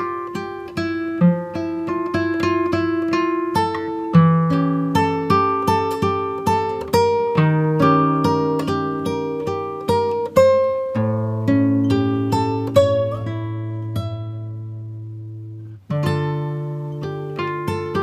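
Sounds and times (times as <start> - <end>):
acoustic guitar plucking: 0.0 - 18.0.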